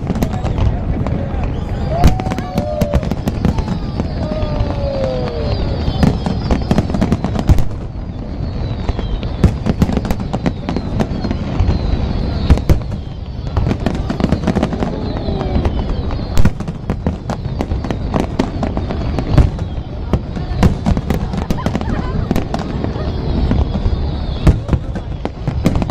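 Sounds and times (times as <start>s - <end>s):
fireworks bursting and crackling: 0.0s - 25.9s
loud firework bangs: 0.0s - 25.9s.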